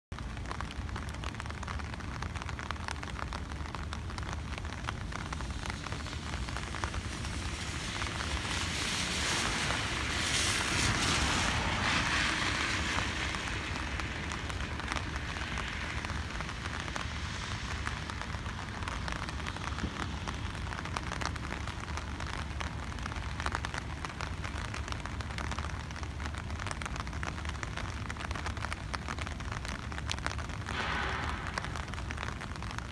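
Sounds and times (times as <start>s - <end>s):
constant low rumble: 0.1s - 32.9s.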